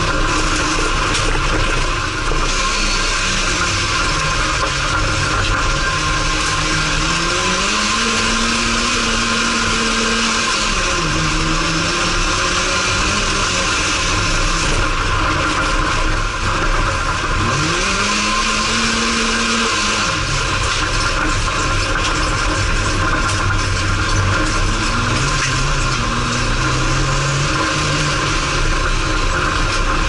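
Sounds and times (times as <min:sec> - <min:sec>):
race car engine revving: 0:00.0 - 0:30.0
tyres on loose dirt: 0:00.0 - 0:30.0.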